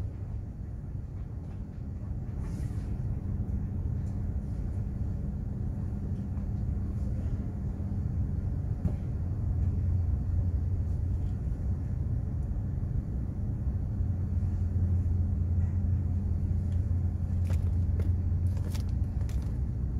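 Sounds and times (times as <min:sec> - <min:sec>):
ship machinery drone: 0:00.0 - 0:19.9.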